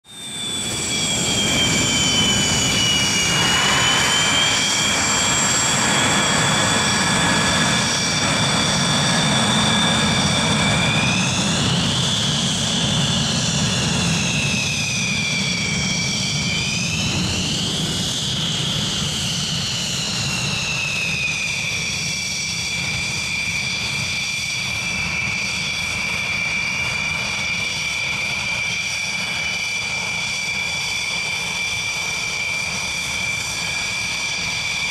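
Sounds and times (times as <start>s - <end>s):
jet engine whine: 0.0s - 34.9s.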